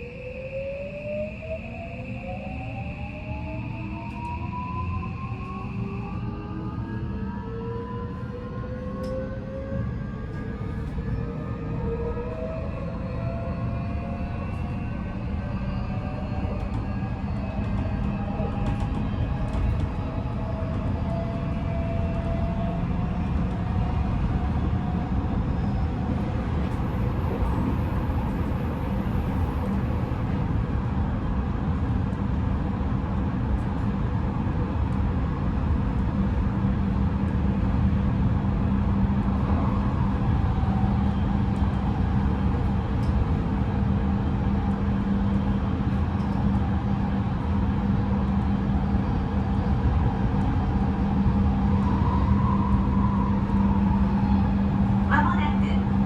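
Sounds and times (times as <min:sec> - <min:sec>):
wheels rumbling on rail: 0:06.6 - 0:56.0.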